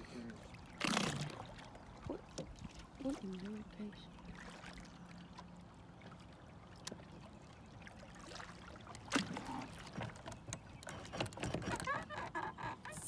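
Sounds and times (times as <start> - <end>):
knocks and clunks on boat: 0.0 - 6.2, 8.3 - 13.0
water lapping against boat hull: 0.0 - 13.0.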